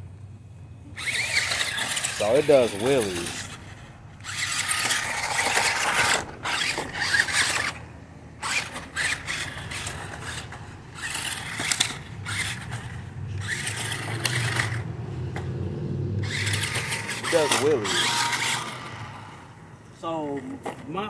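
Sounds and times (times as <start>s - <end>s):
toy truck motors whirring: 0.9s - 15.5s, 16.2s - 19.7s.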